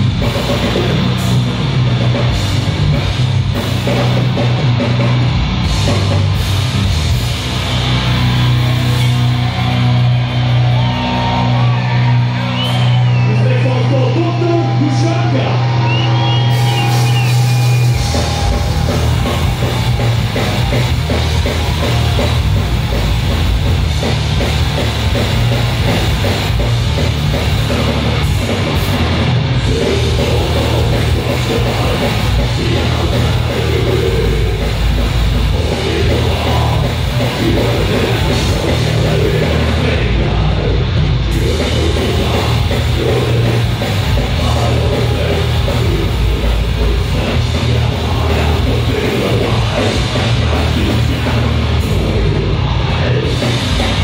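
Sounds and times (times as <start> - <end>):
fast drumming: 0.0 - 11.7, 12.6 - 54.0
death metal band playing live: 0.0 - 54.0
heavy distorted guitars: 0.0 - 54.0.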